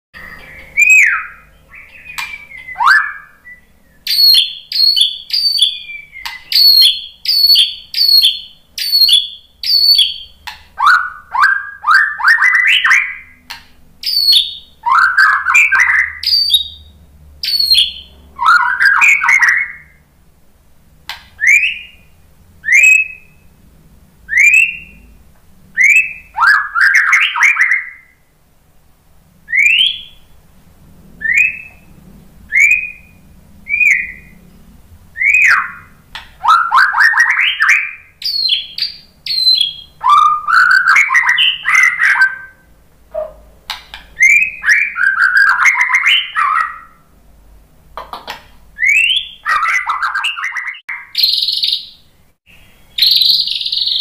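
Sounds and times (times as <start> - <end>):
bird singing whistles: 0.2 - 20.0, 21.4 - 23.5, 24.3 - 25.2, 25.8 - 28.3, 29.5 - 30.4, 31.2 - 31.9, 32.5 - 34.4, 35.2 - 42.7, 44.2 - 47.1, 48.8 - 54.0.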